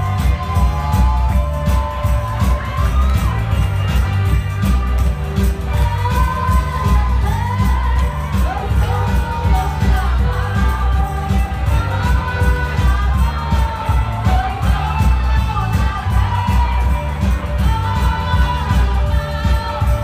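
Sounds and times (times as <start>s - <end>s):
dance music with bass beat: 0.0s - 20.0s
person singing: 0.0s - 20.0s.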